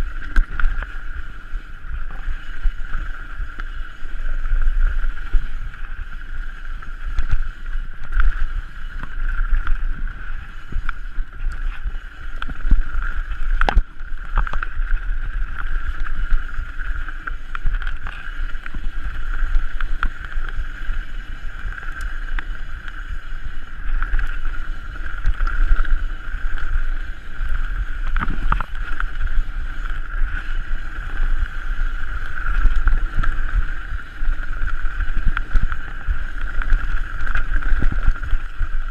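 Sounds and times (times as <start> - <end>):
bike chain and frame rattling: 0.0 - 38.9.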